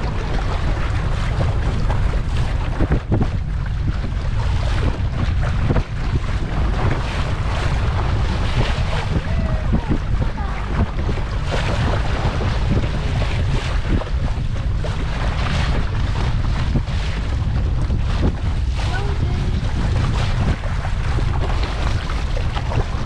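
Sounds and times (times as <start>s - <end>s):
water rushing past hull: 0.0s - 23.0s
wind buffeting microphone: 0.0s - 23.0s.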